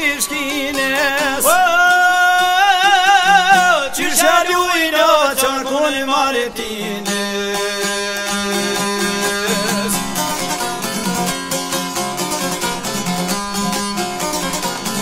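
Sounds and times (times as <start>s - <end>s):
man singing ornamented folk song: 0.0s - 15.0s
plucked long-necked lute: 0.0s - 15.0s.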